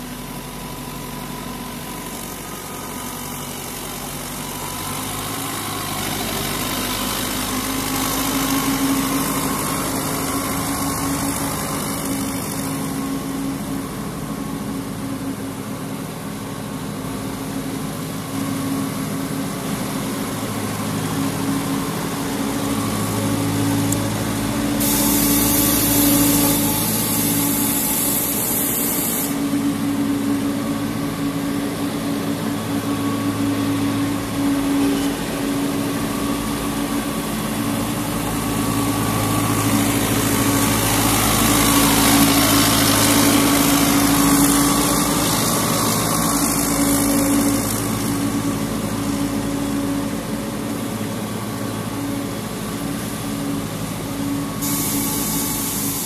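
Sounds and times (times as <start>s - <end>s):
concrete mixer truck engine: 0.0s - 56.0s.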